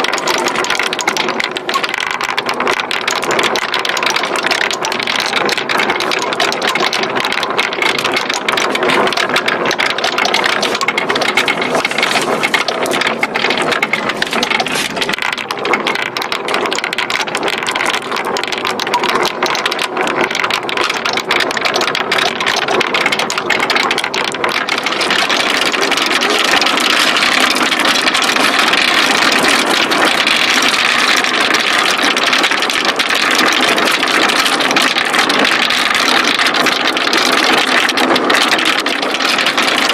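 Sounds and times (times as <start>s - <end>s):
marbles rattling down wooden track: 0.0s - 39.9s.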